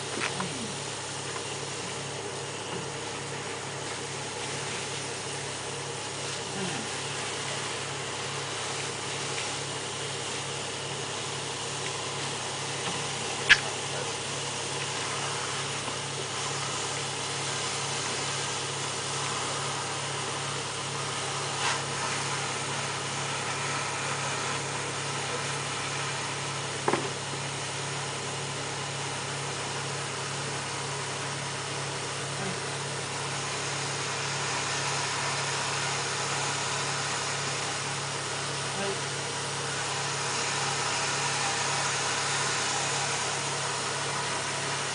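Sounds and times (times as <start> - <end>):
engine droning: 0.0 - 44.9.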